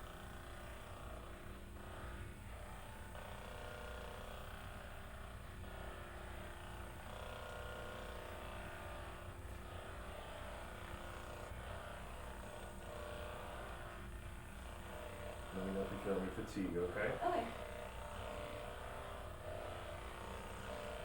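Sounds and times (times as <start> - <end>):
vibration massager buzzing: 0.0 - 21.0.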